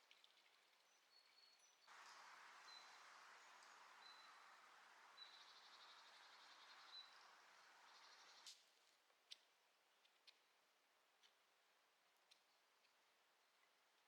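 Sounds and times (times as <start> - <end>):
soft steady hiss: 0.0 - 14.0.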